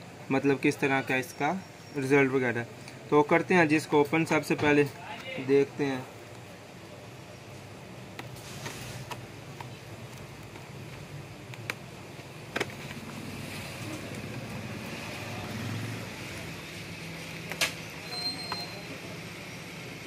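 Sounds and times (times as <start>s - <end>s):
steady low background hum: 0.0s - 18.1s.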